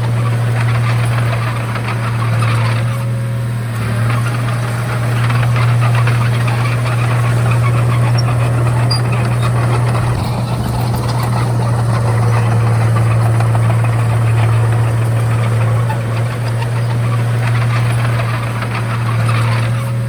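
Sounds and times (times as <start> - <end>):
light rattle: 0.0 - 3.2, 3.9 - 20.0
bulldozer diesel engine droning: 0.0 - 20.0.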